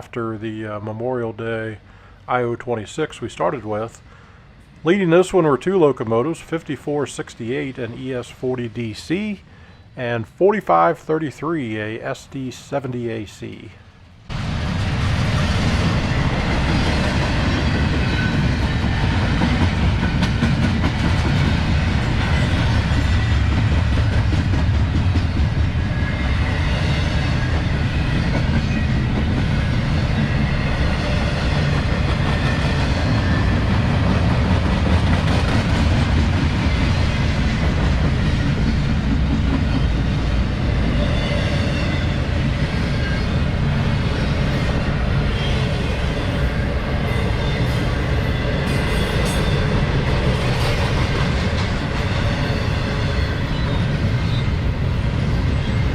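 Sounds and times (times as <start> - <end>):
freight train wheels on rail: 3.4 - 55.9.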